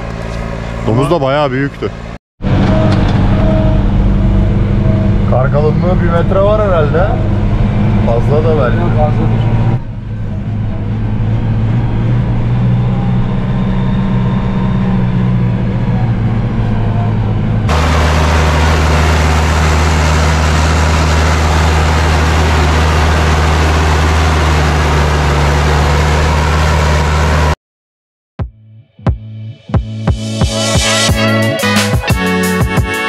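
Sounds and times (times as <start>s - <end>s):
tractor diesel engine running: 0.0s - 27.6s.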